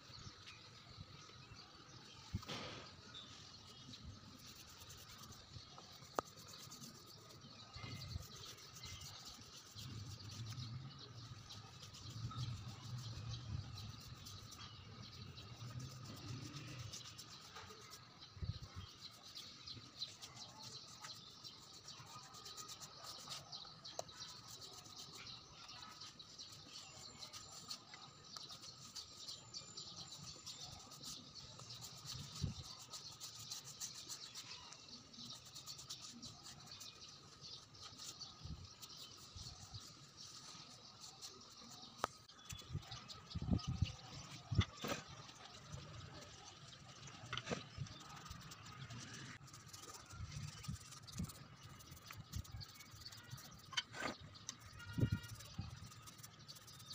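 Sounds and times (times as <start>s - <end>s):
faint birds chirping: 0.0s - 56.9s.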